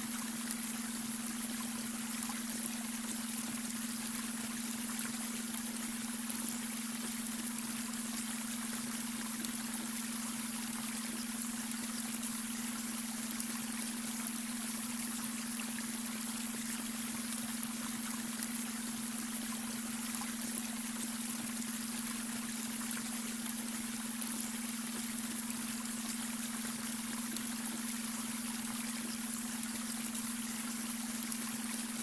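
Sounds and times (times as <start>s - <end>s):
water trickling over stones: 0.0s - 32.0s.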